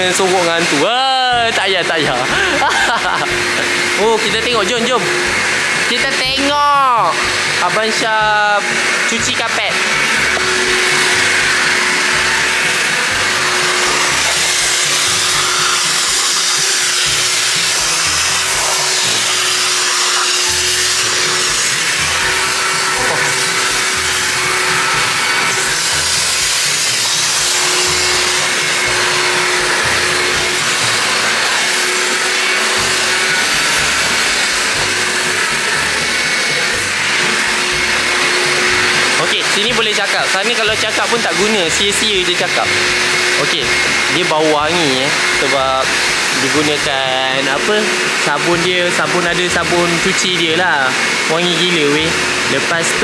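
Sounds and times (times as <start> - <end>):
carpet extraction vacuum running: 0.0 - 53.0.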